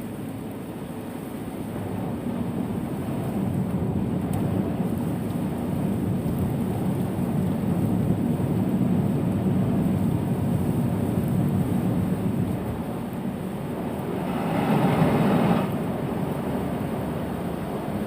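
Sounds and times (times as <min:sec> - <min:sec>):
vehicle rumbling in heavy rain: 0:00.0 - 0:18.0.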